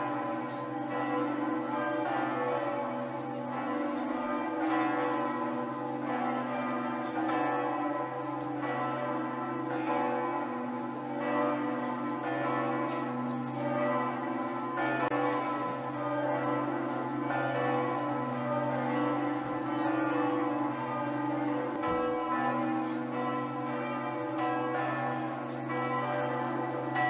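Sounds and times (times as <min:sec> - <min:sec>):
church bells ringing: 0:00.0 - 0:27.0.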